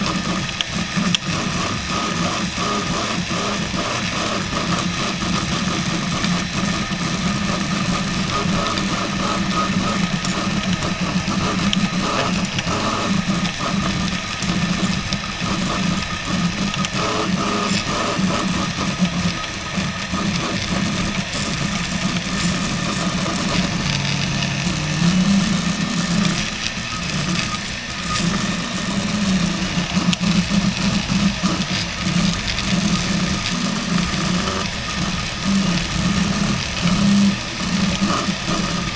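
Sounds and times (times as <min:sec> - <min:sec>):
stepper motors buzzing and whining: 0:00.0 - 0:38.9.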